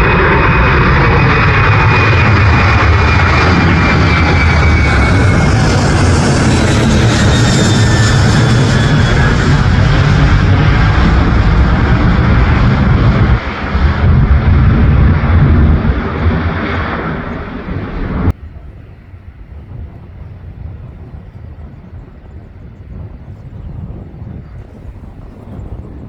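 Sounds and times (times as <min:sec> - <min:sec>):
jet engines at takeoff: 0:00.0 - 0:26.0
faint low rumble: 0:03.3 - 0:26.0.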